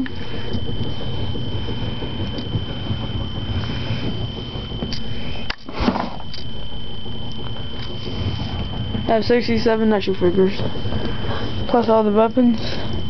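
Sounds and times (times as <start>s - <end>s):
high electronic whine: 0.0s - 13.0s.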